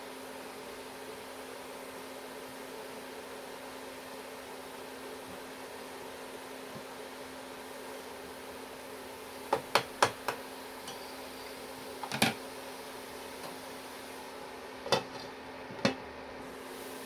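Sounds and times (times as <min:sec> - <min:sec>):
frying pan hum and hiss: 0:00.0 - 0:17.0.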